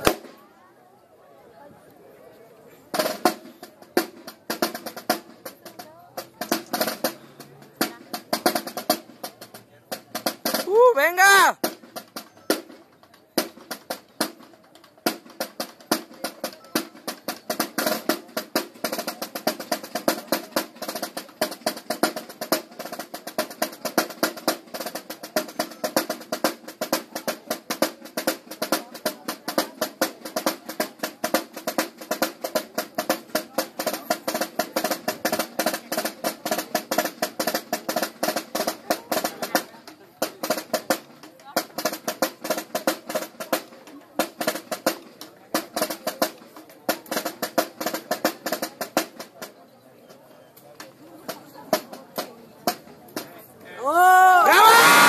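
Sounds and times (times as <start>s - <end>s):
drum corps playing cadence: 0.0s - 0.4s, 2.9s - 49.3s, 51.7s - 55.0s.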